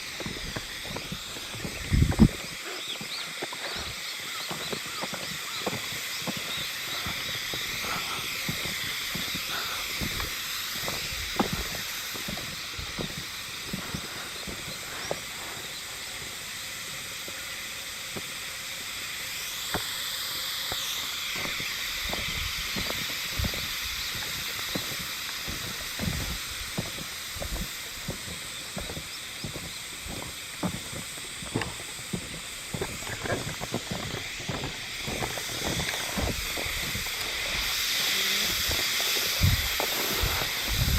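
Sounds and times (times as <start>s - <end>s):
cicadas buzzing in chorus: 0.0s - 40.9s.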